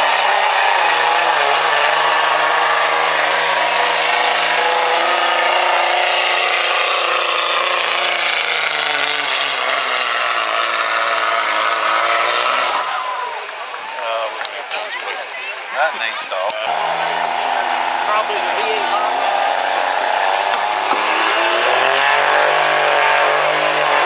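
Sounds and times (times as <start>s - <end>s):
diesel engine drone: 0.0s - 24.0s.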